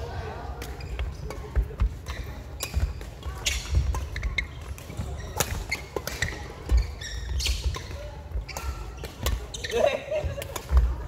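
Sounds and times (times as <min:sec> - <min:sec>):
rackets striking shuttlecock: 0:00.5 - 0:10.9
shoes squeaking: 0:00.7 - 0:10.4.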